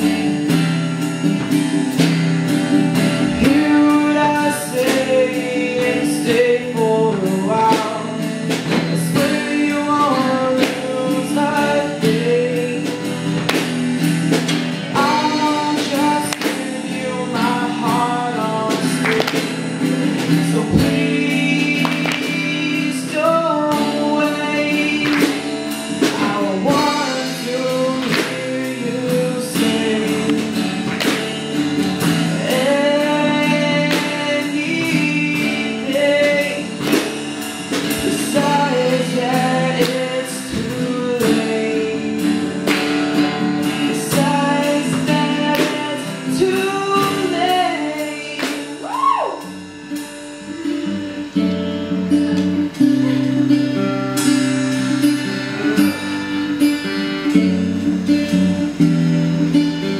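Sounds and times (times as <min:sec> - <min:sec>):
strummed acoustic guitar: 0:00.0 - 0:59.9
person singing long notes: 0:03.0 - 0:13.6, 0:14.9 - 0:31.0, 0:32.0 - 0:59.9.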